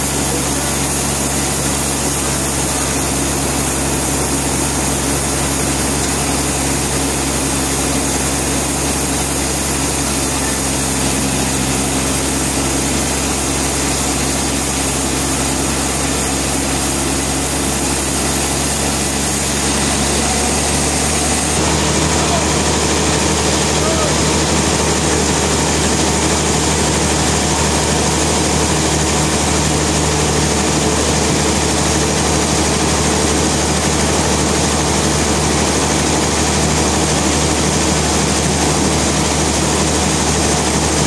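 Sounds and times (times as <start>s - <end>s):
sawmill machinery noise: 0.0s - 41.0s.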